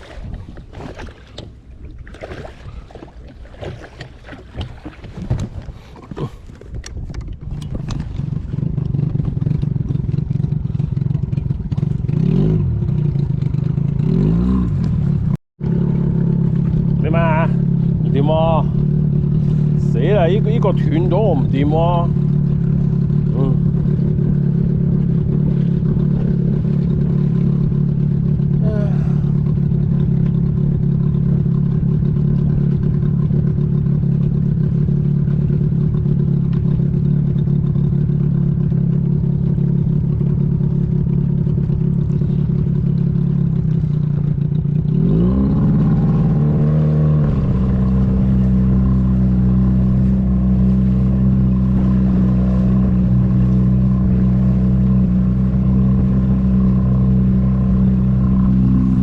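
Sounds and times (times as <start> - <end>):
vehicle engine running: 7.3 - 59.0.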